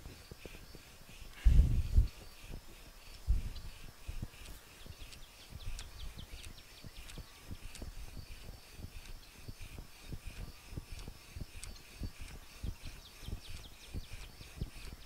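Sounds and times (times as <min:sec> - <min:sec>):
birds chirping: 0:00.0 - 0:15.0
wooden spindle rasping: 0:00.0 - 0:15.0.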